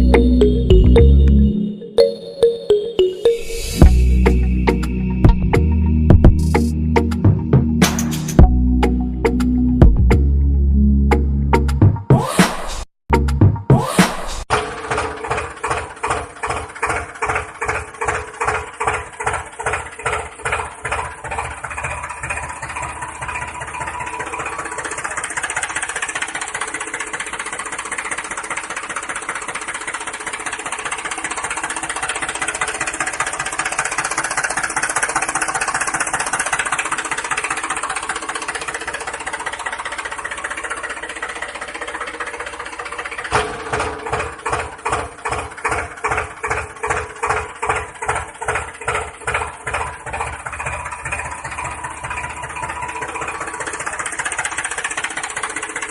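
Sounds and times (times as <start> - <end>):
tractor engine chugging: 0.0 - 1.7, 3.6 - 10.4, 14.4 - 55.9.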